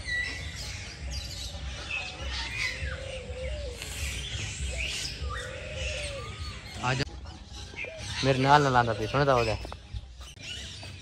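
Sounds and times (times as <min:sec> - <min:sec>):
many birds chirping and calling: 0:00.0 - 0:11.0.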